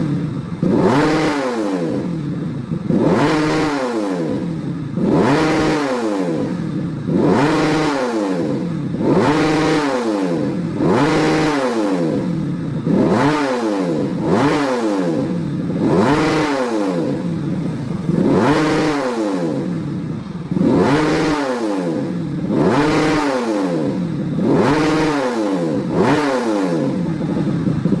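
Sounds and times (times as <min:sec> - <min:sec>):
motorcycle engine throttle blips: 0:00.0 - 0:28.0.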